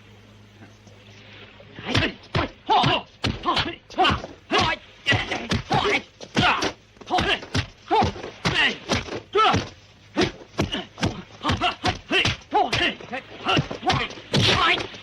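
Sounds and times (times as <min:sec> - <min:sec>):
fighters yelling and grunting: 0:01.8 - 0:15.0
punch and kick impacts: 0:01.9 - 0:15.0.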